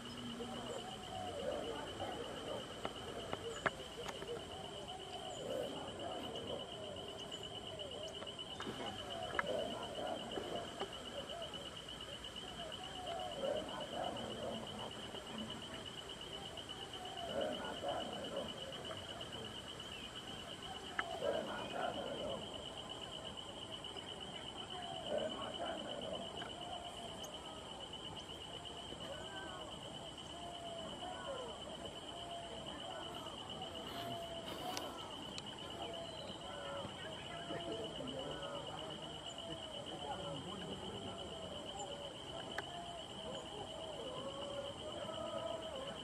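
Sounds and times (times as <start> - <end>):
faint wavering insect calls: 0.0 - 46.0
high insect trill: 0.0 - 46.0.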